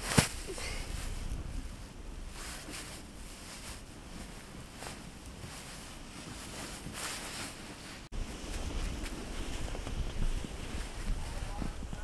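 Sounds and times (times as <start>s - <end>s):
wind buffeting microphone: 0.0s - 7.0s, 8.2s - 12.0s
soft hissing rustles: 0.0s - 12.0s.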